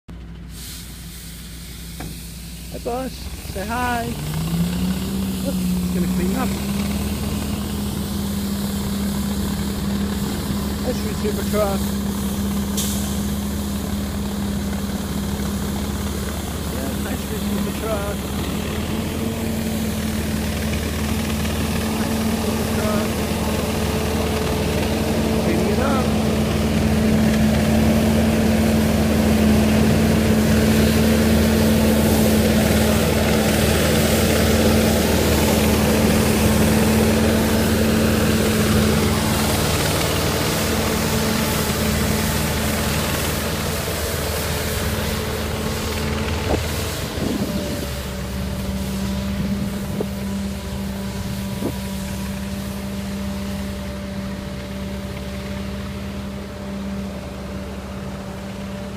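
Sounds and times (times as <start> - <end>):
street sweeper engine humming: 0.1 - 58.9.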